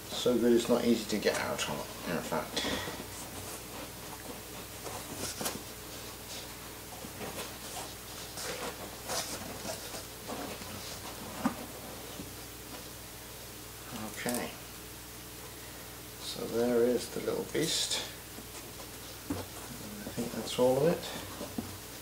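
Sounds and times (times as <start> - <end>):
rustling foam and cardboard: 0.0 - 14.5, 16.4 - 22.0.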